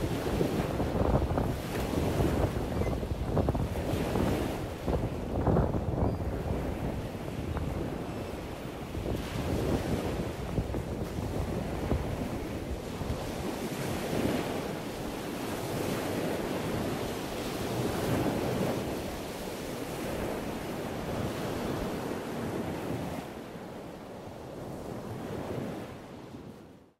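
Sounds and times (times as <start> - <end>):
water lapping at a dock: 0.0 - 26.7
wind buffeting microphone: 0.0 - 26.7.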